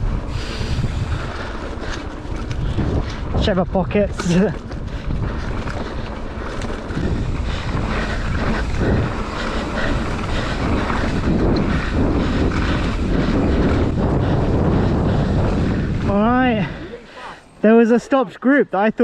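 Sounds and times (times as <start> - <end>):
bike rattling and knocking: 0.0 - 17.7
wind buffeting microphone: 0.0 - 18.0
bike tyre noise: 0.0 - 18.2.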